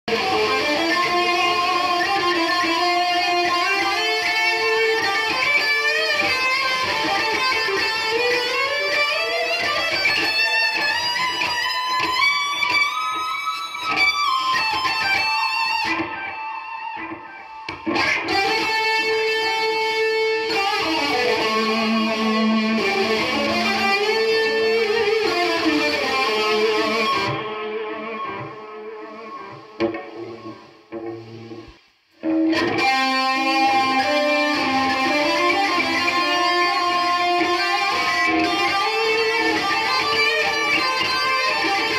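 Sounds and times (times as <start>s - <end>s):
electric guitar with delay: 0.0s - 41.9s.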